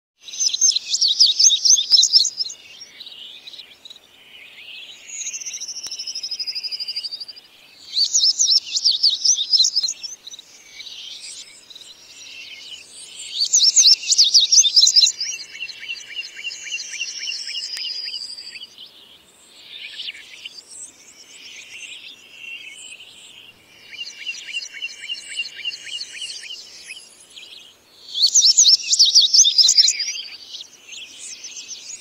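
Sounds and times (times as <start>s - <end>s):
lower bird trill: 0.2s - 32.0s.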